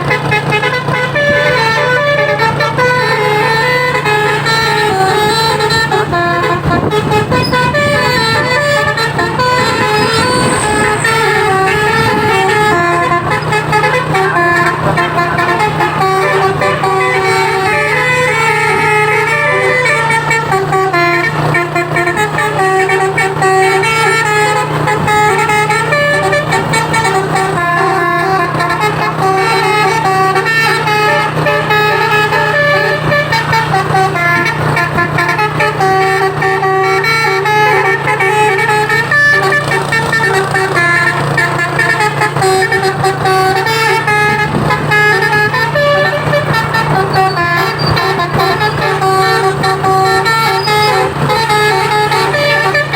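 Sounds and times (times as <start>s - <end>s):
musical air horn playing a tune: 0.0s - 52.9s.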